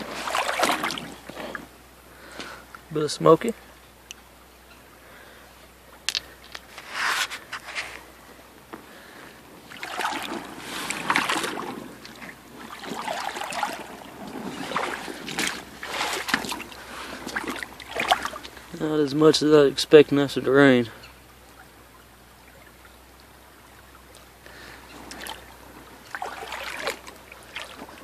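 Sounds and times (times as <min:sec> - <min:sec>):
boots splashing through creek: 0:00.0 - 0:02.9, 0:06.3 - 0:19.9, 0:21.2 - 0:28.0.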